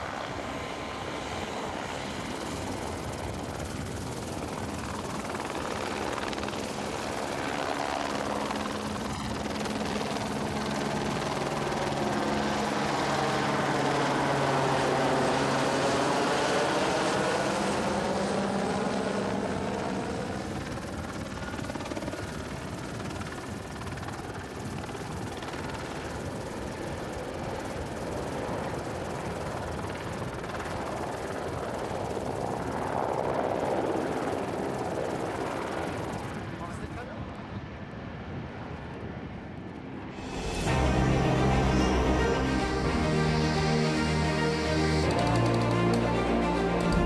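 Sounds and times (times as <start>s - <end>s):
jet airliner engines running: 0.0s - 47.0s.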